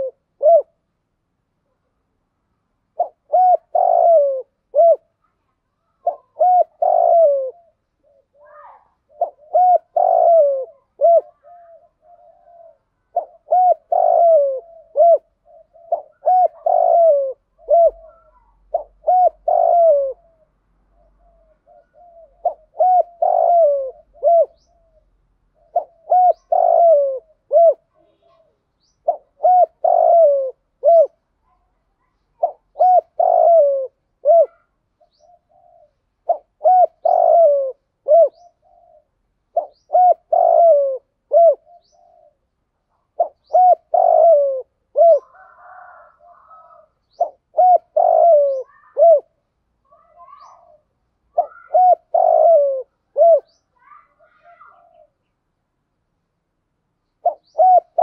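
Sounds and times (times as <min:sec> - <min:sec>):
dove cooing: 0:00.0 - 0:00.8, 0:02.9 - 0:05.2, 0:05.8 - 0:49.4, 0:50.0 - 0:55.2, 0:57.2 - 0:58.0.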